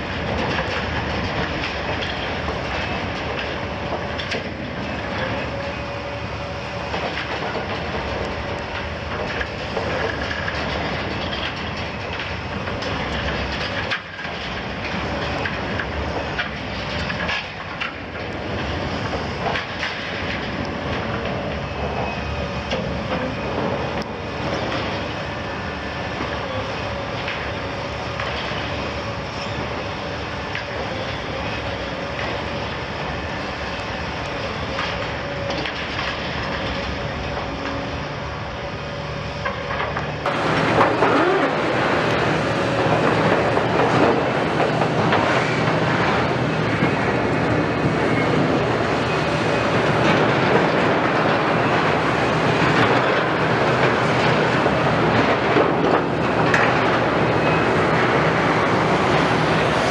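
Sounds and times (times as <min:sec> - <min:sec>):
diesel engine: 0:00.0 - 0:59.9
steel tracks clanking and rattling: 0:00.0 - 0:59.9.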